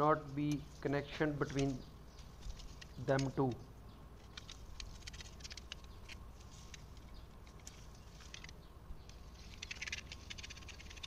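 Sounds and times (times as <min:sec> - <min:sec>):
branch rustling and crackling: 0:00.5 - 0:03.6, 0:04.2 - 0:11.0.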